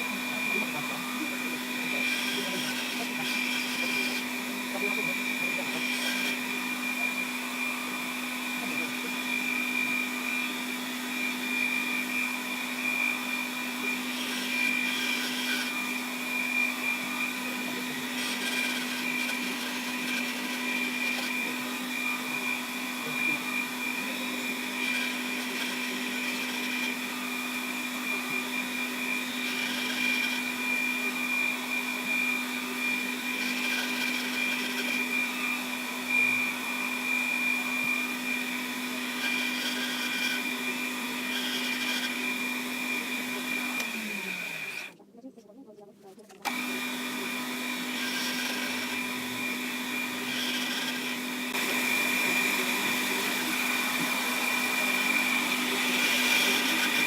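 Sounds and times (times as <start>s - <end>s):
metal lathe motor humming: 0.0s - 45.0s, 46.4s - 57.0s.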